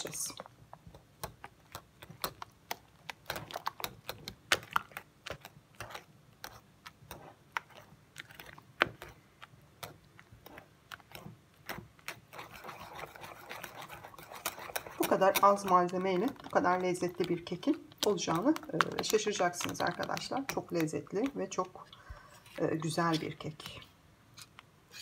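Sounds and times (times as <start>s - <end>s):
whisk clicking against bowl: 1.2s - 21.8s.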